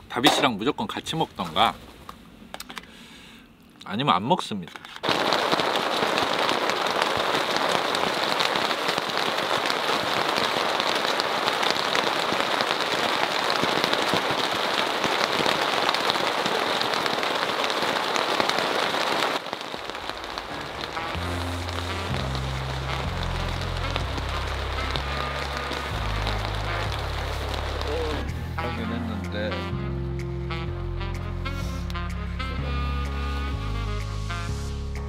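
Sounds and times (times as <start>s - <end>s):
rain falling: 5.0s - 35.0s.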